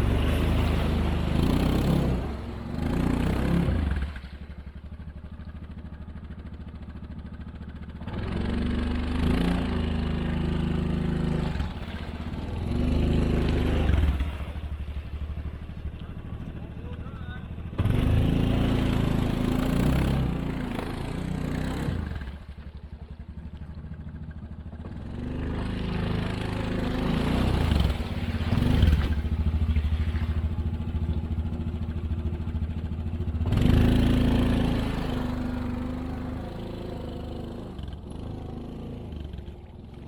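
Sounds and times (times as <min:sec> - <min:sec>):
small vehicle engine revving: 0:00.0 - 0:05.2, 0:07.2 - 0:40.0.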